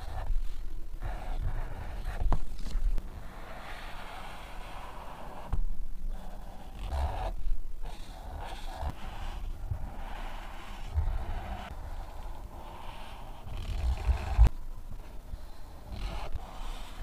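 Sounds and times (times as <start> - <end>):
marker scratching on paper: 1.0 - 5.5, 6.1 - 14.5, 15.9 - 17.0.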